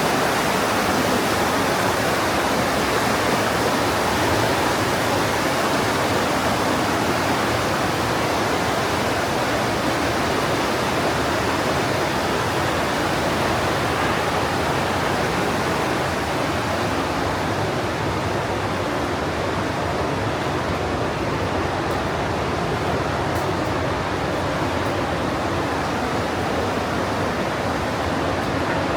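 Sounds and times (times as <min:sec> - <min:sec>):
mountain stream rushing: 0:00.0 - 0:28.9.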